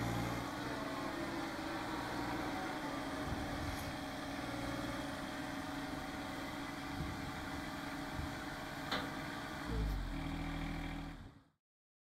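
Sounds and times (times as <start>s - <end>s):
diesel tractor engine running: 0.0s - 11.4s.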